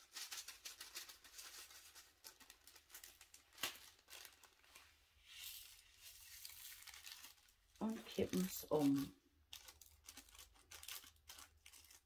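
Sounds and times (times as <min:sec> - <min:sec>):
plastic bag crinkling and rattling: 0:00.0 - 0:12.0.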